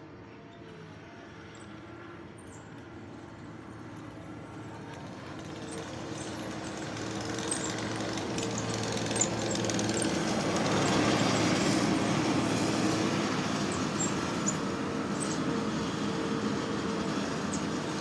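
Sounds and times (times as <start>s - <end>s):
skid steer engine running: 3.2s - 18.0s.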